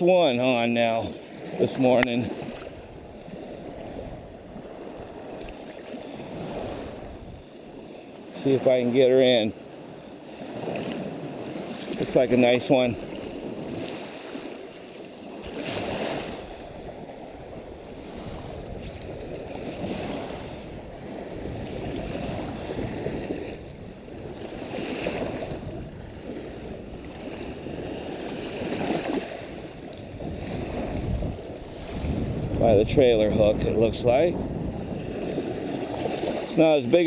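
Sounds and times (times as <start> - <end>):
small waves washing onto beach: 0.0 - 37.0.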